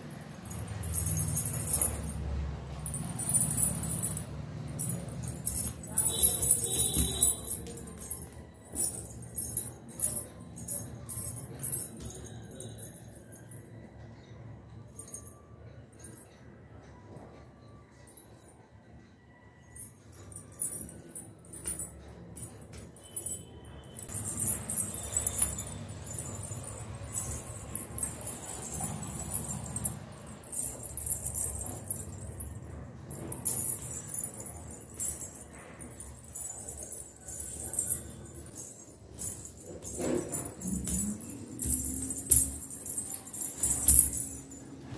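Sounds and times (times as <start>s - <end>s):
anklet bells jingling: 0.0s - 16.4s, 19.6s - 44.9s.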